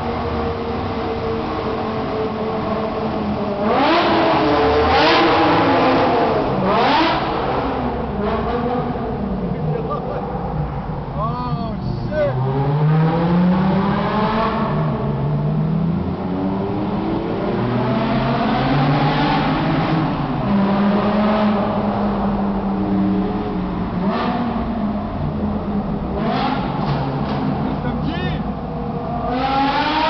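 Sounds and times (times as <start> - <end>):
car engine revving in tunnel: 0.0 - 30.0.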